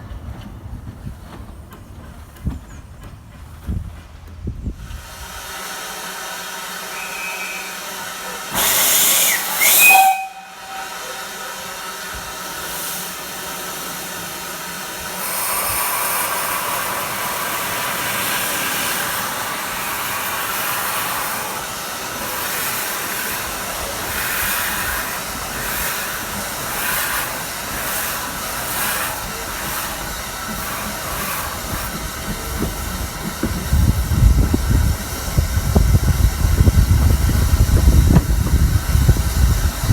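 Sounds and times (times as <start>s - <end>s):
steam locomotive hissing: 0.0s - 39.9s
loud steam blast: 4.7s - 39.9s.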